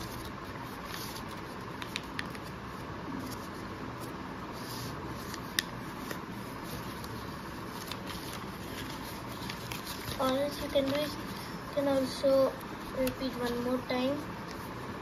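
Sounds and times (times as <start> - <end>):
paper crease clicks: 0.0 - 2.6, 5.2 - 14.7
paper rustling: 0.0 - 14.9.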